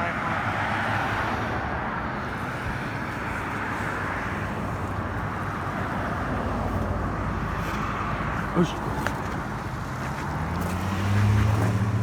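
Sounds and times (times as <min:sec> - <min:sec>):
cars driving past fast: 0:00.0 - 0:12.0.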